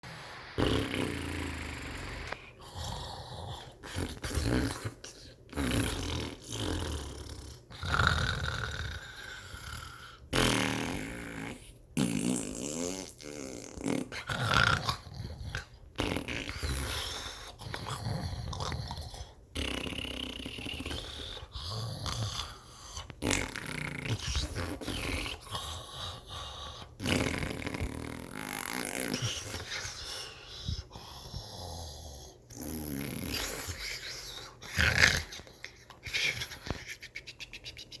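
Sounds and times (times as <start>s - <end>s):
person snoring comically: 0.3s - 30.0s, 30.7s - 38.0s.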